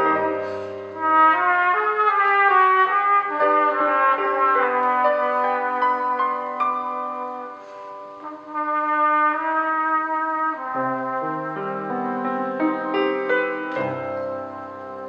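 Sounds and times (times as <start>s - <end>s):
cornet slow melody: 0.0s - 15.0s.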